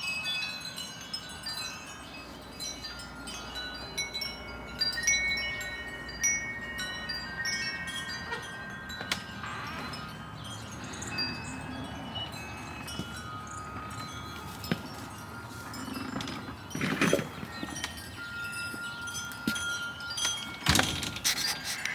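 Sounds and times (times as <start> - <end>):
wind chimes ringing: 0.0 - 21.9.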